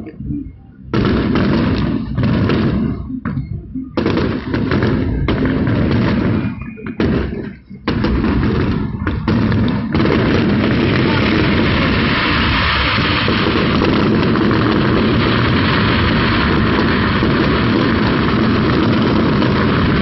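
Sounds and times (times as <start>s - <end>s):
fireworks barrage: 0.8s - 20.0s.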